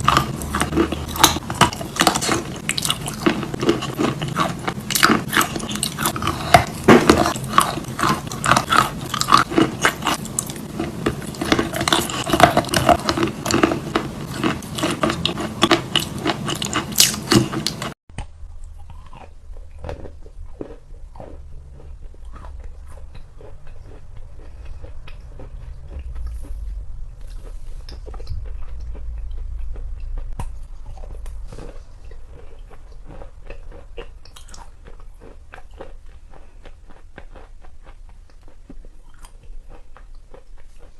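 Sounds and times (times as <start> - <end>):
chalk being crunched and chewed: 0.0 - 17.9, 18.6 - 40.9.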